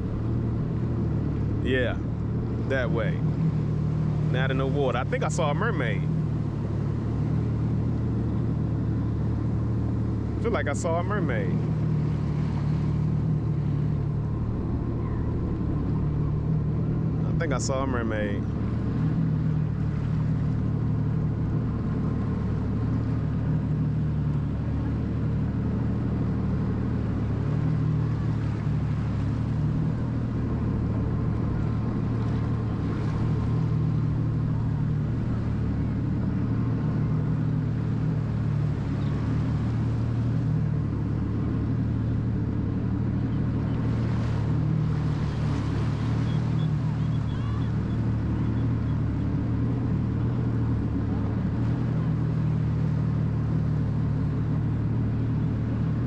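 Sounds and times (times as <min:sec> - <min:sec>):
jet ski engine humming: 0:00.0 - 0:56.0.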